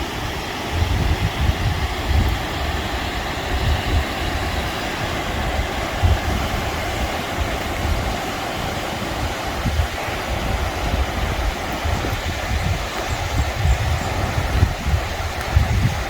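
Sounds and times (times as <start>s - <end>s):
flowing river water: 0.0s - 16.0s
wind buffeting microphone: 0.0s - 16.0s.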